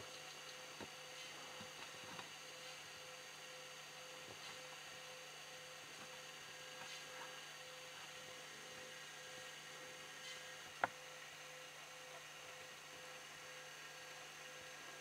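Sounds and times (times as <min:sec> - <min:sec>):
faint hum and hiss: 0:00.0 - 0:15.0.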